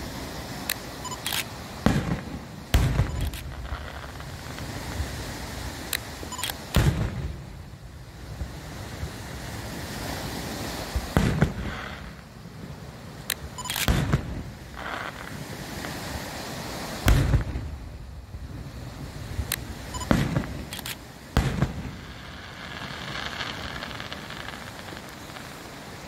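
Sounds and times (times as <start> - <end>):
steady rushing background noise: 0.0 - 26.0
fireworks bangs: 1.7 - 12.7, 13.7 - 26.0.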